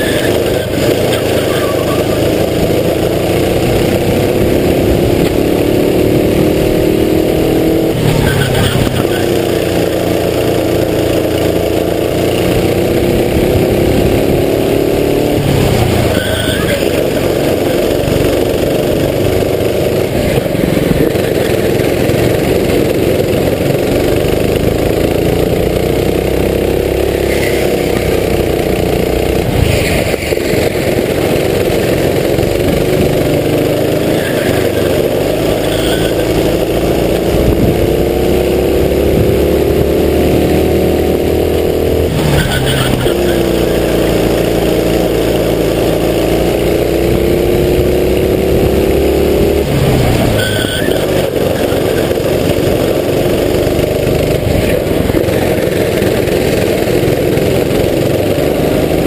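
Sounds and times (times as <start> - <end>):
kart engine accelerating: 0.0 - 59.0.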